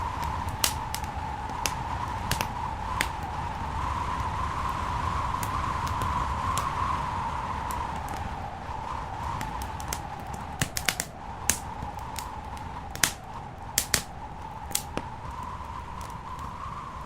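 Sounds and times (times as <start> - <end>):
fire pops and snaps: 0.0 - 17.0
steady rushing noise: 0.0 - 17.0
wood fire crackling: 0.0 - 17.0.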